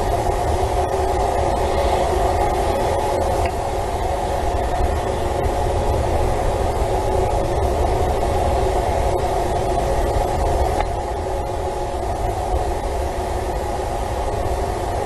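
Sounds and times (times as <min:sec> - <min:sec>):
low hum: 0:00.0 - 0:15.0
rumbling background noise: 0:00.0 - 0:15.0.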